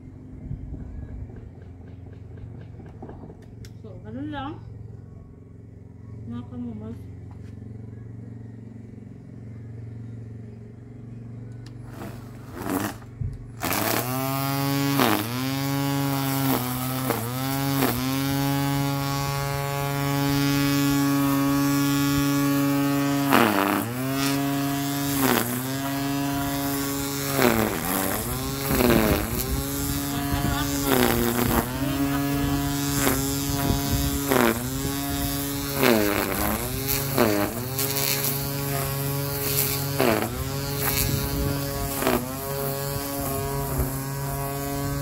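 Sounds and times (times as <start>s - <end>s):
electric string trimmer whine: 1.2s - 45.0s.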